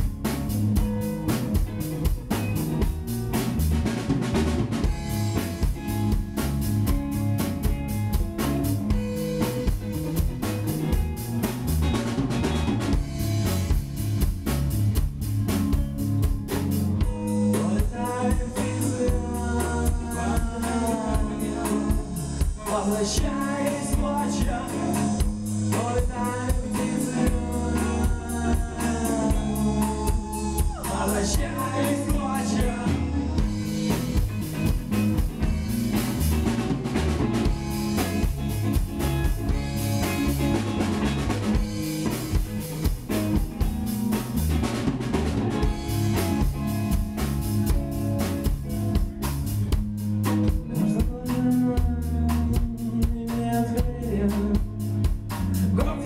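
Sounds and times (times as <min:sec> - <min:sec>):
rock band playing live: 0:00.0 - 0:56.0
steady drum beat: 0:00.0 - 0:56.0.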